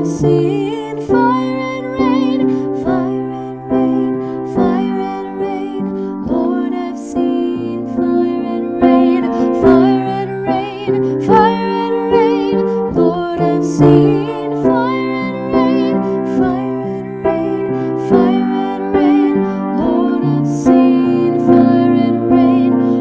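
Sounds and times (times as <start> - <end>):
piano accompaniment: 0.0 - 23.0
woman singing with vibrato: 0.0 - 23.0.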